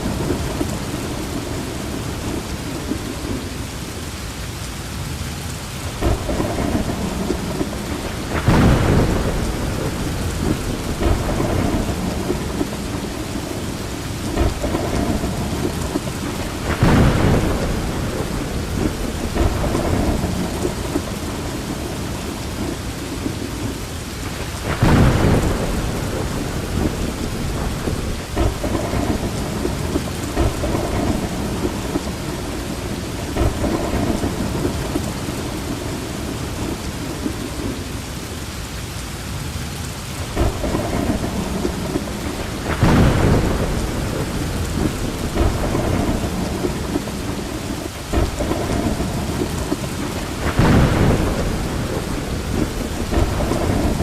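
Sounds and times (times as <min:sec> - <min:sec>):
thunder rumbling: 0:00.0 - 0:03.7, 0:05.6 - 0:38.0, 0:40.0 - 0:54.0
rain falling: 0:00.0 - 0:54.0.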